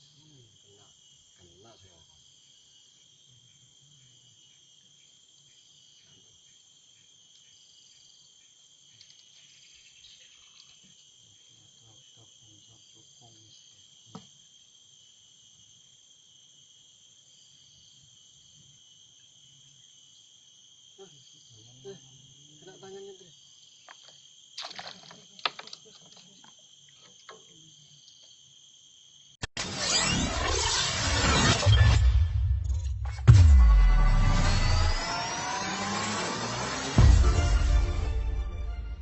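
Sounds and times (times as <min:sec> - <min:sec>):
pulsing insect trill: 0:00.0 - 0:38.4
crickets and insects chirping: 0:00.0 - 0:39.0.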